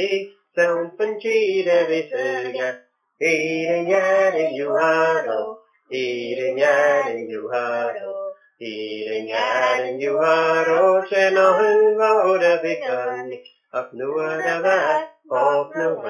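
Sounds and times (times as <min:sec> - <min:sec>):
man and boys singing: 0:00.0 - 0:16.0.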